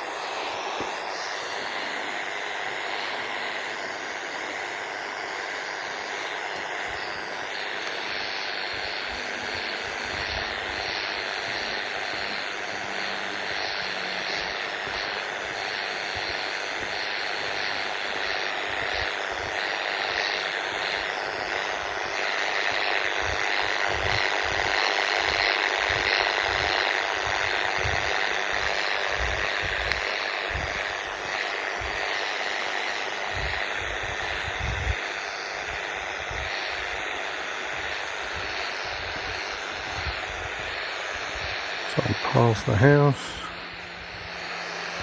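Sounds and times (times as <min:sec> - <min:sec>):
radio interference hiss and buzz: 0:00.0 - 0:45.0.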